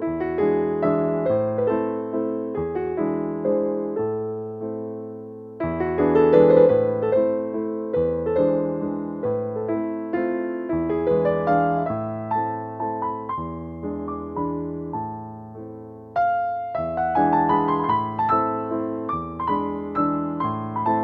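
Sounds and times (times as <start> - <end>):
solo piano melody: 0.0 - 21.0.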